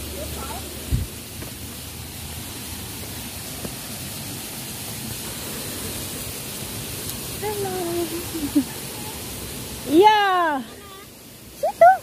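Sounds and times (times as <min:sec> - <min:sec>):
mountain stream flowing over rocks: 0:00.0 - 0:12.0.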